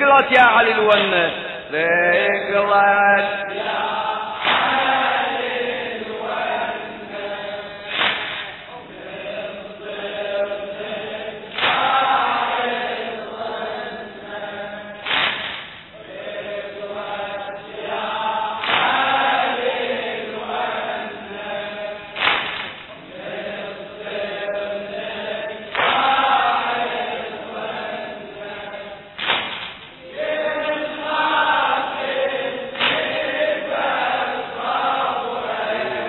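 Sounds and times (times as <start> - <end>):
men chanting in unison: 0.0 - 15.2, 16.0 - 22.3, 22.9 - 29.2, 30.0 - 36.0.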